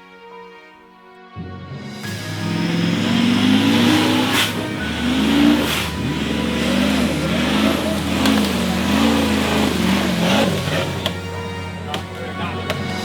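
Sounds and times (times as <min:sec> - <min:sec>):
off-road engine revving: 0:01.9 - 0:13.0.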